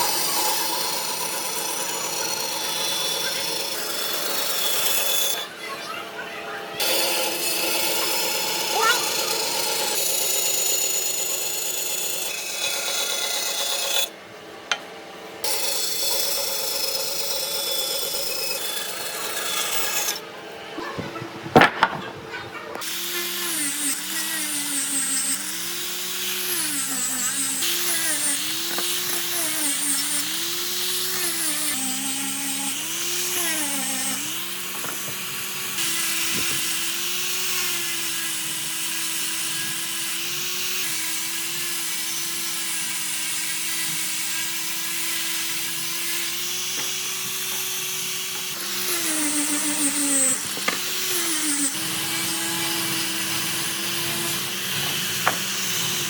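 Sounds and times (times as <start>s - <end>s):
power tool cutting wood: 0.0s - 14.2s, 15.4s - 20.3s, 21.2s - 56.0s.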